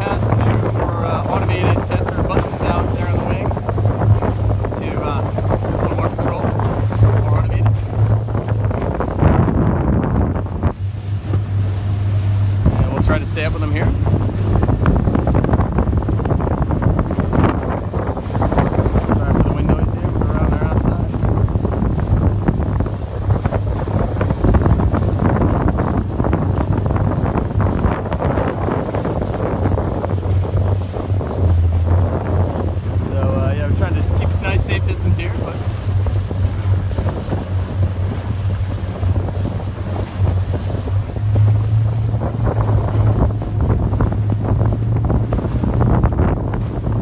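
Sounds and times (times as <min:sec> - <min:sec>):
loud irregular low rumble: 0:00.0 - 0:47.0
water rushing past boat: 0:00.0 - 0:47.0
wind buffeting microphone: 0:00.0 - 0:47.0.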